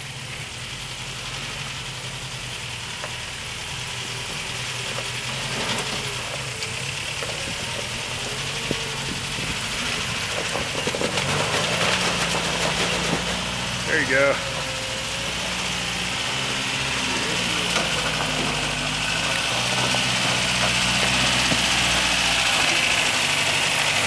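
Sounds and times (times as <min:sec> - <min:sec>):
truck engine at low revs: 0:00.0 - 0:24.0.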